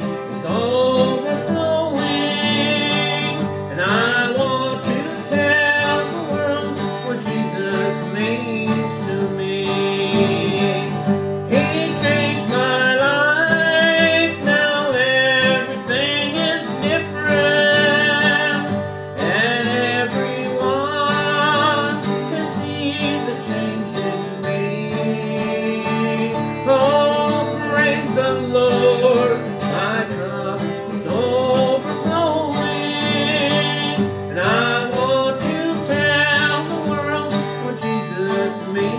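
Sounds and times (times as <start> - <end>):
country gospel music with guitar: 0.0 - 38.9.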